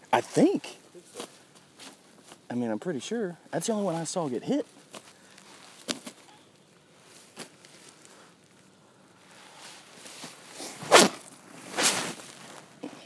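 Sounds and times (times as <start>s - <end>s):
rustling and handling noise: 0.0s - 13.0s.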